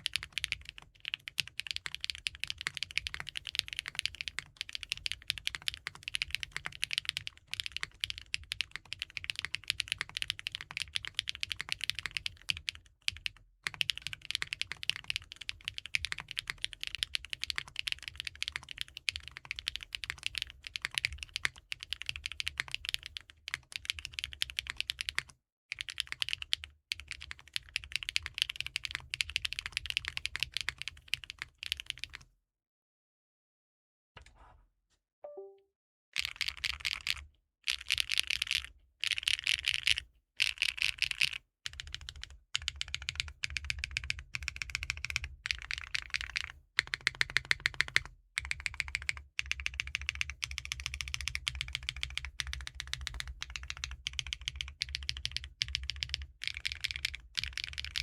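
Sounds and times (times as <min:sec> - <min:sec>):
mechanical keyboard typing: 0:00.0 - 0:32.2, 0:36.2 - 0:58.0.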